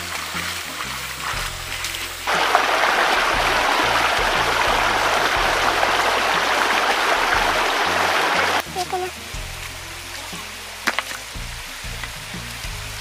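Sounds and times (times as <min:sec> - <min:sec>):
background music with bass line: 0:00.0 - 0:13.0
water rushing over rocks: 0:00.0 - 0:13.0.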